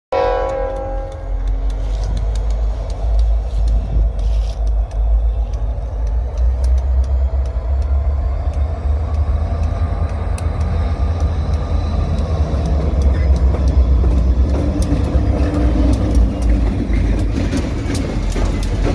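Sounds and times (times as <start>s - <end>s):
diesel locomotive rumble: 0.1s - 18.9s.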